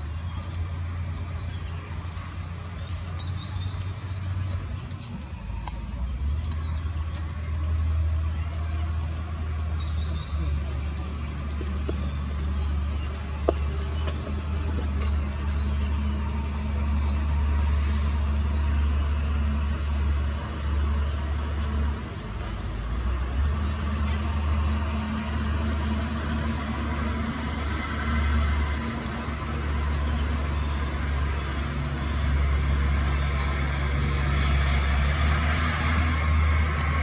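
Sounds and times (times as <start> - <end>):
engine rumbling: 0.0 - 37.0.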